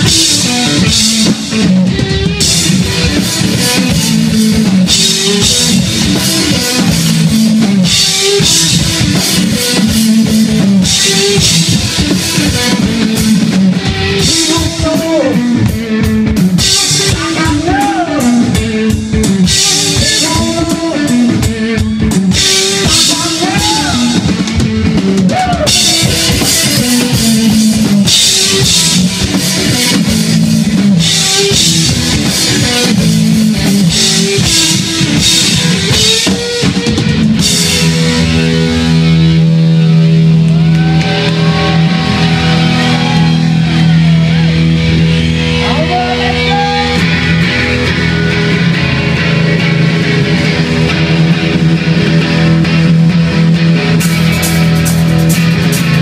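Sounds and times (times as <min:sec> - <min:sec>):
busy drum kit with cymbals: 0:00.0 - 0:56.0
loud electric guitar: 0:00.0 - 0:56.0.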